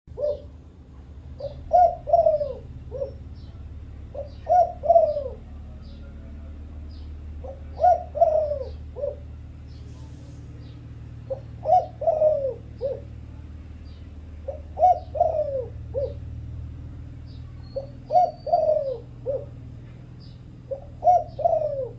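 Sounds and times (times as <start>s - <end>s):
dove cooing: 0.1s - 9.9s, 10.5s - 21.9s
small birds chirping faintly: 0.1s - 21.9s
steady low hum: 0.1s - 21.9s.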